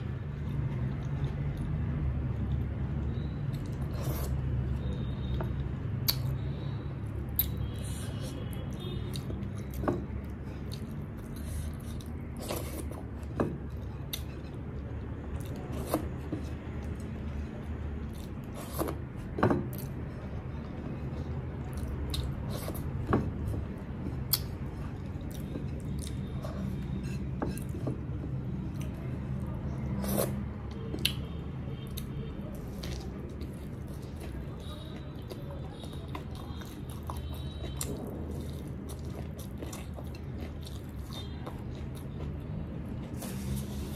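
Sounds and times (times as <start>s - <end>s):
food chewing: 7.1s - 43.9s.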